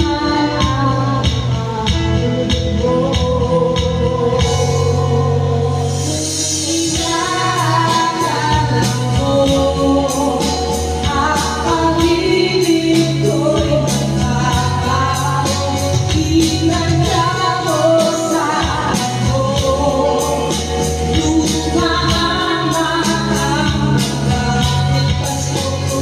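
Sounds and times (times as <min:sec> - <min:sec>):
backing music with steady beat: 0:00.0 - 0:26.0
woman singing into a microphone: 0:00.0 - 0:26.0.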